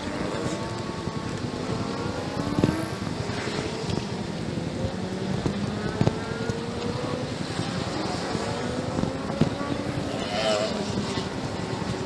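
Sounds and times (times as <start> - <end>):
street traffic: 0.0 - 12.0
vehicle engines revving: 0.0 - 12.0
wind noise: 0.0 - 12.0.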